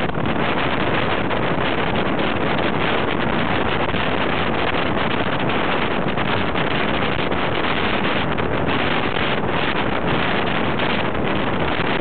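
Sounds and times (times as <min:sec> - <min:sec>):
wind rushing across microphone: 0:00.0 - 0:12.0.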